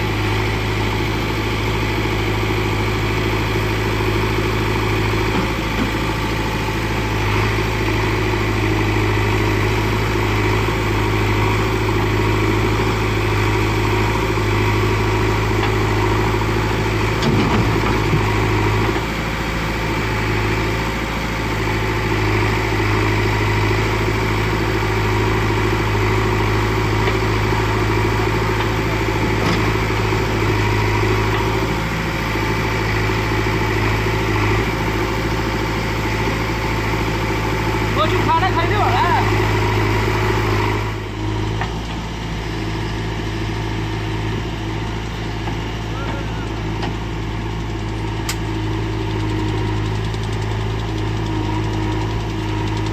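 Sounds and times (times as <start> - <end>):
diesel engine idling low: 0.0 - 52.9.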